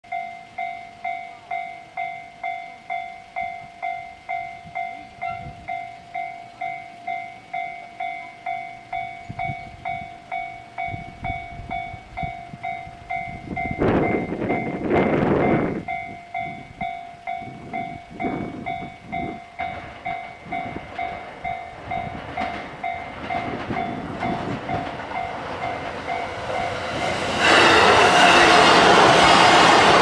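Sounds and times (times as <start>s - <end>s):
electric train rumbling past: 0.1s - 30.0s.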